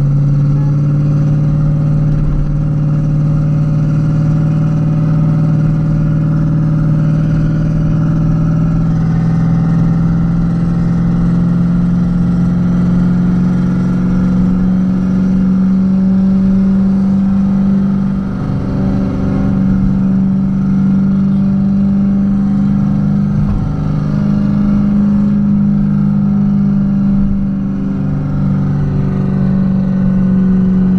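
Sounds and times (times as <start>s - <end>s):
car engine droning: 0.0s - 30.9s.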